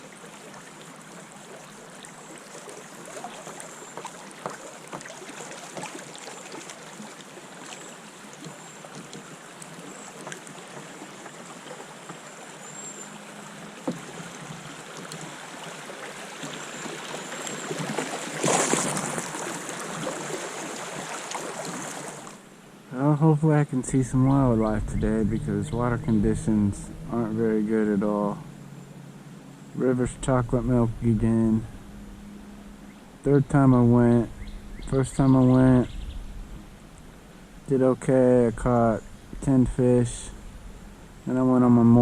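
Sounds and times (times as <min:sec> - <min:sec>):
river water lapping: 0:00.0 - 0:42.0.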